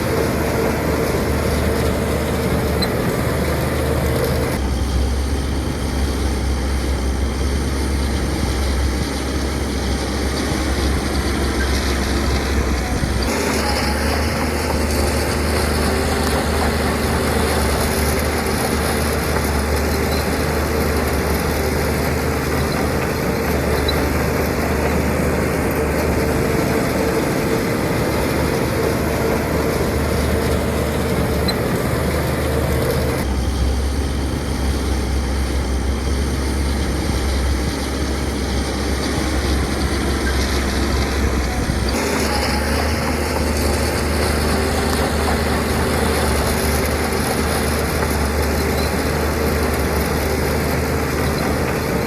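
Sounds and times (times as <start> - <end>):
diesel construction machinery running: 0.0 - 52.0.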